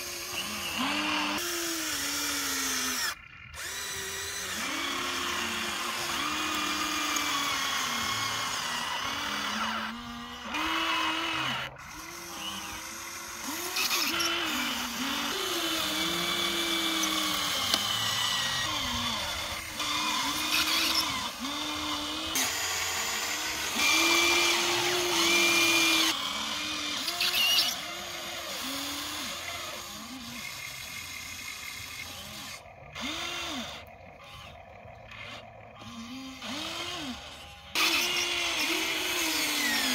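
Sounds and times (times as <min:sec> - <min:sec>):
toy excavator motors whining: 0:00.0 - 0:39.9.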